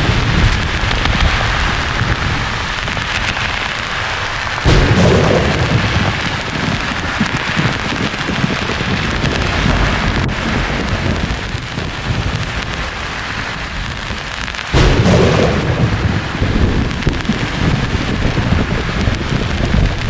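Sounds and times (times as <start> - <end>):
rain-like white noise hiss: 0.0 - 20.0
thunder clap and rumble: 0.0 - 20.0.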